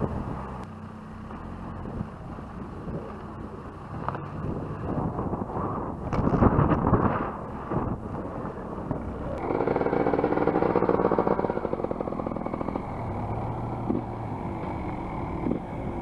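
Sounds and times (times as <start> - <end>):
vehicle engine idling: 0.0 - 6.3, 7.3 - 16.0
dirt bike engine running: 0.0 - 16.0.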